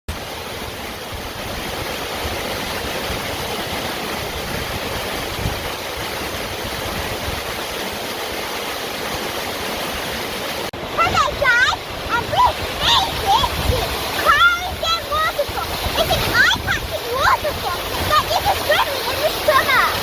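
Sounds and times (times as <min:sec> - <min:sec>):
waterfall rushing: 0:00.1 - 0:20.0.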